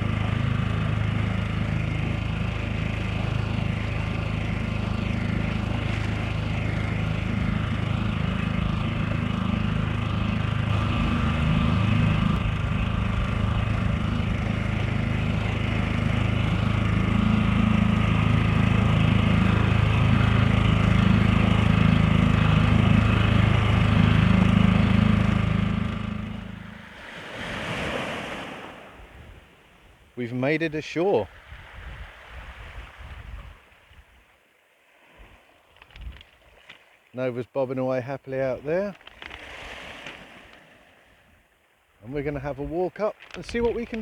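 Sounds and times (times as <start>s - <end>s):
small outboard motor running: 0.0s - 44.0s.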